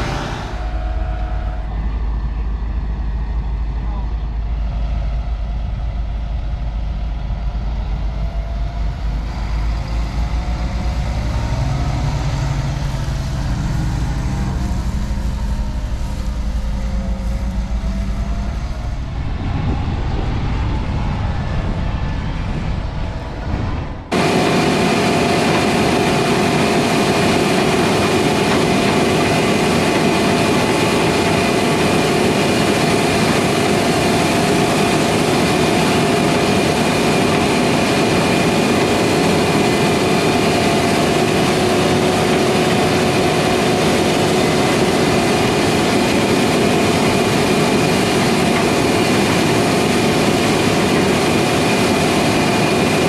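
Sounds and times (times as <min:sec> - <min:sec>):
diesel harvest machinery running: 0:00.0 - 0:53.0
steady machine whine: 0:00.0 - 0:53.0.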